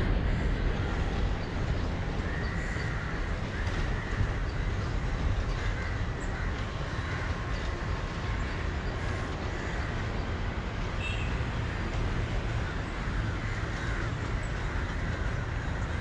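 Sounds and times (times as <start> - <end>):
distant train rumbling: 0.0 - 16.0
outdoor background noise: 0.0 - 16.0.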